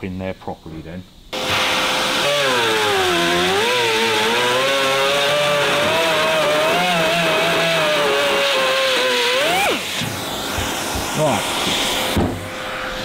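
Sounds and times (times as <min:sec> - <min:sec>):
die grinder grinding steel: 0:01.4 - 0:13.0.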